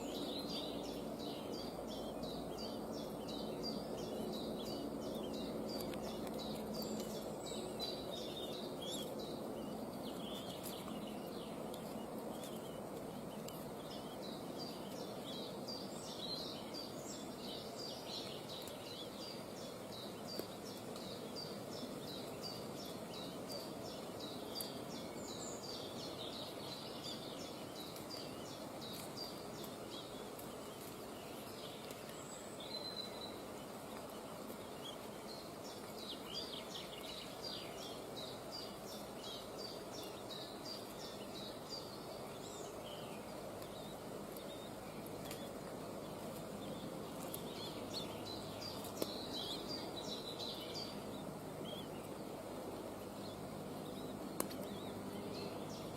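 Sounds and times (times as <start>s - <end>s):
steady outdoor background noise: 0.0s - 55.9s.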